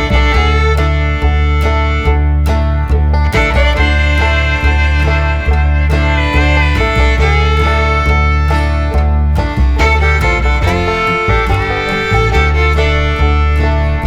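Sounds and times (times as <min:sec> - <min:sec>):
fiddle: 0:00.0 - 0:14.0
plucked strings: 0:00.0 - 0:14.0
steady bass: 0:00.0 - 0:14.0.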